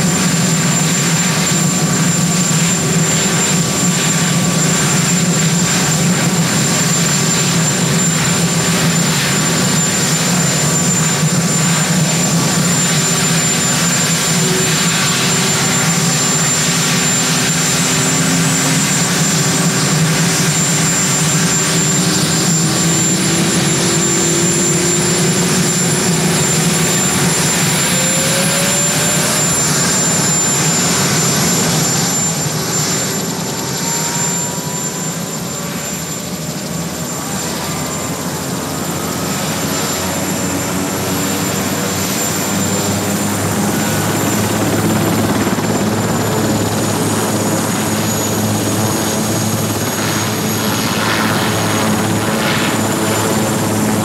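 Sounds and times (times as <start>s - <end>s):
helicopter engine whine and drone: 0.0s - 54.0s
rising rotor tone: 0.0s - 54.0s.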